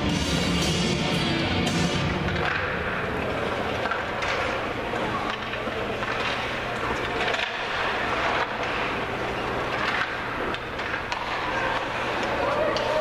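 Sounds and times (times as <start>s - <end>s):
sticks and puck clacking: 1.6s - 13.0s.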